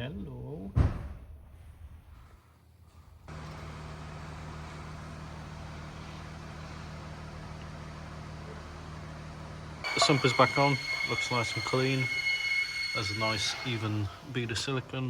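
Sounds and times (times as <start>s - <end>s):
low mechanical hum with hiss: 2.7s - 15.0s.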